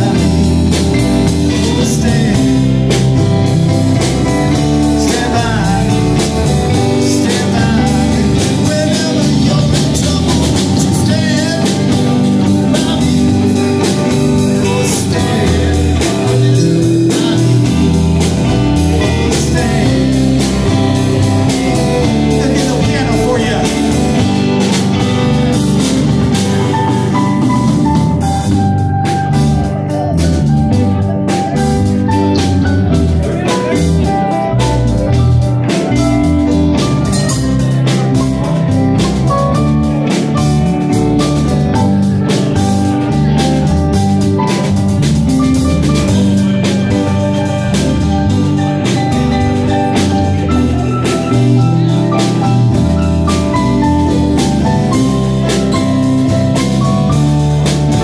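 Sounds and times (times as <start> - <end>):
bass guitar: 0.0 - 58.0
drum kit beat: 0.0 - 58.0
electric guitars: 0.0 - 58.0
keyboard: 0.0 - 58.0.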